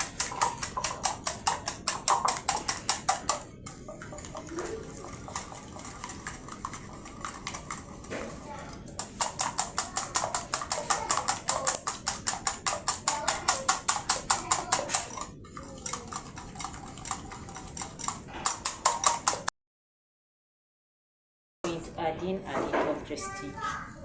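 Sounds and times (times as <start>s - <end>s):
utensil beating eggs in a bowl: 0.0s - 19.5s.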